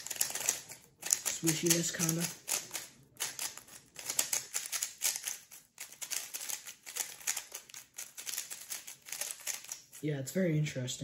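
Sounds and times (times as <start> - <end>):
speed cube clacking: 0.0 - 10.0.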